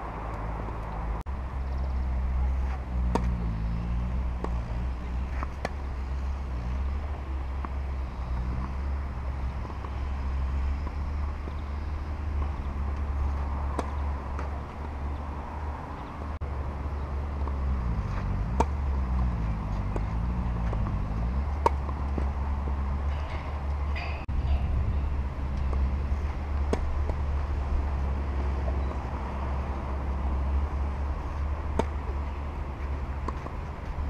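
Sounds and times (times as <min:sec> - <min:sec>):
traffic rumble: 0:00.0 - 0:34.0
vehicle engine passing: 0:00.0 - 0:34.0
tennis ball bouncing: 0:01.7 - 0:16.0, 0:16.8 - 0:24.2, 0:25.4 - 0:34.0
racket striking ball: 0:02.5 - 0:15.0, 0:17.4 - 0:24.2, 0:25.4 - 0:34.0.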